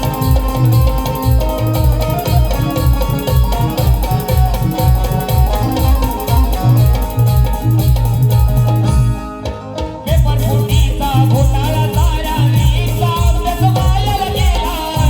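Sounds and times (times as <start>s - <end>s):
fast steady drum beat: 0.0s - 15.0s
sustained folk melody: 0.0s - 15.0s.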